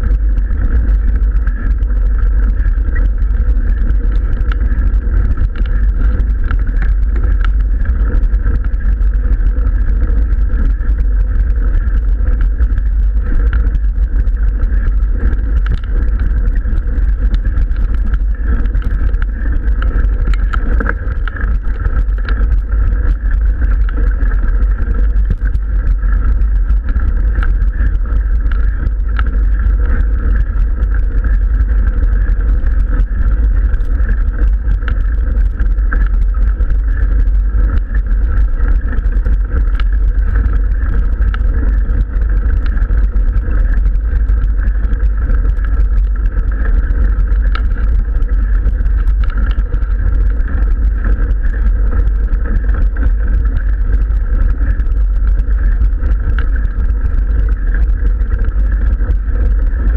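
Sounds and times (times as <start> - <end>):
bike tyres rumbling on gravel: 0.0 - 59.9
crackles and clicks from tyres: 0.0 - 59.9.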